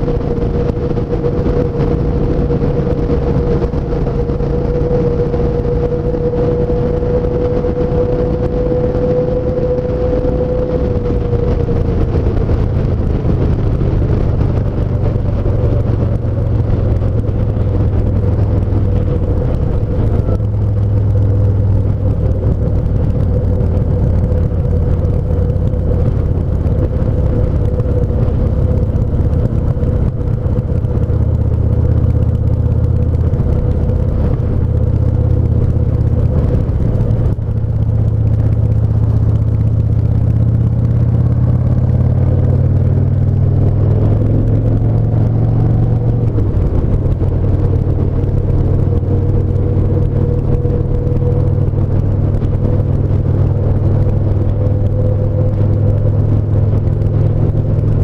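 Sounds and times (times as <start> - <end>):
motorcycle engine cruising: 0.0 - 58.0
steady whine: 0.0 - 58.0.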